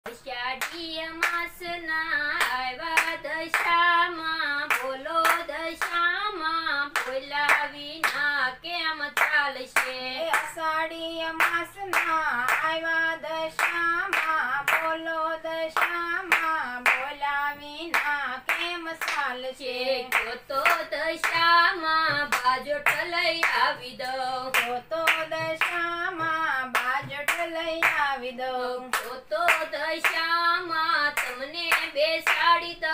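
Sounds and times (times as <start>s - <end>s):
person singing devotional song: 0.1s - 32.9s
rhythmic handclaps: 0.1s - 32.9s.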